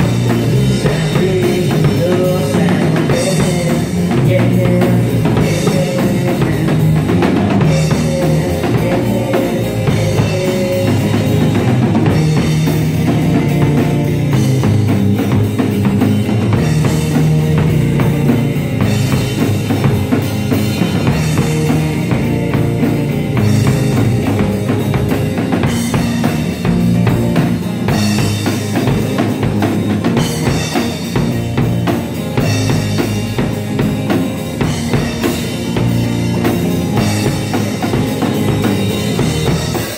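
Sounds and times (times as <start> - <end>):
drum kit rock rhythm: 0.0 - 39.9
electric guitars: 0.0 - 39.9
live rock band playing: 0.0 - 39.9.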